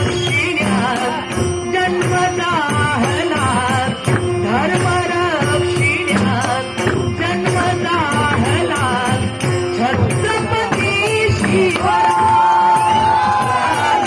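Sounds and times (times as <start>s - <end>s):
devotional folk singing: 0.0s - 14.0s
drum strokes: 0.0s - 14.0s
small cymbals: 0.0s - 14.0s.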